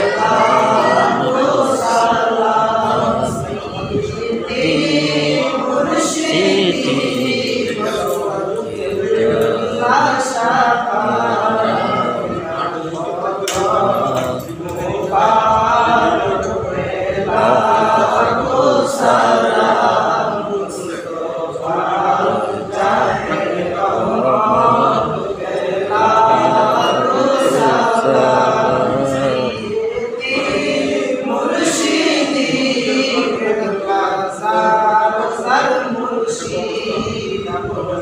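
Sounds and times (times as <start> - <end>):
men chanting in unison: 0.0 - 38.0.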